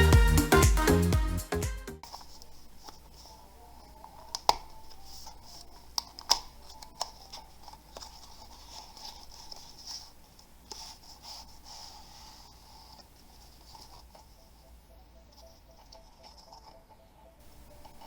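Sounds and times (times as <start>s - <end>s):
faint steady hiss: 2.0s - 16.2s, 17.1s - 18.0s.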